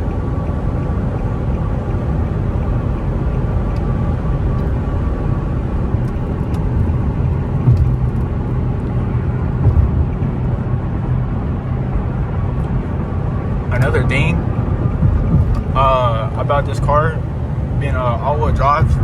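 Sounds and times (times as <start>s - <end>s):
car engine rumble from cabin: 0.0s - 19.0s
road noise: 0.0s - 19.0s.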